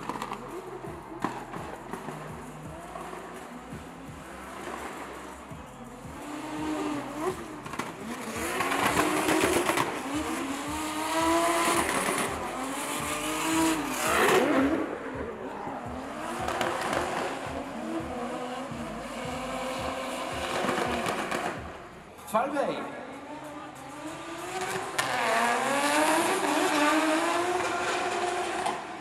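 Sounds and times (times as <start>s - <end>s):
car engines revving: 0.0s - 22.3s, 22.9s - 29.0s.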